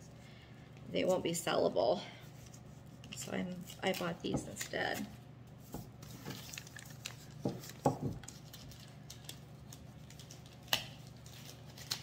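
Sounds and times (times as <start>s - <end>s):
paper rustling: 2.4s - 12.0s.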